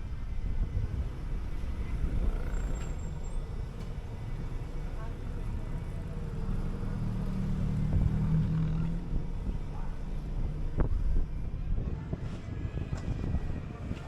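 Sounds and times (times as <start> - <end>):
bus engine hum: 0.0 - 14.0
road noise: 0.0 - 14.0.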